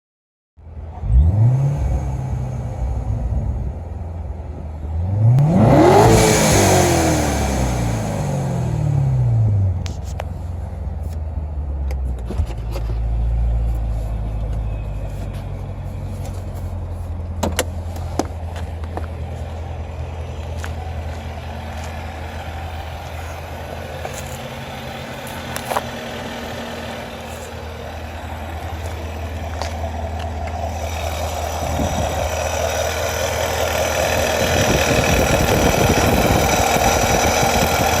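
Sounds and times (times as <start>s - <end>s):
car engine idling: 0.6s - 38.0s.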